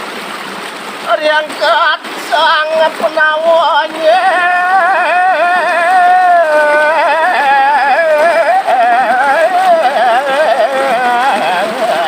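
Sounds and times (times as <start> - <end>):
man singing ornamented melody: 1.1 - 12.0.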